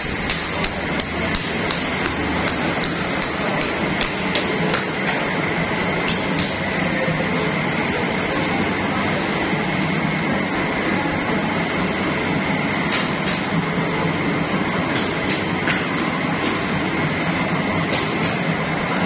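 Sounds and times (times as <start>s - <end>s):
machines rumbling hum with whine: 0.0s - 19.0s.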